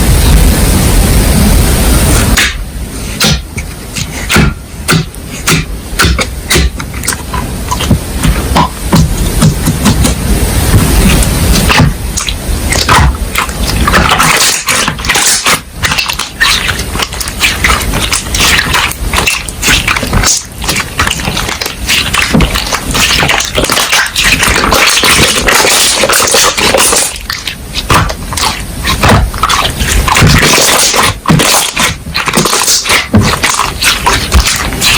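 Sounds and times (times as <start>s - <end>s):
slime squelching by hand: 5.0s - 34.9s.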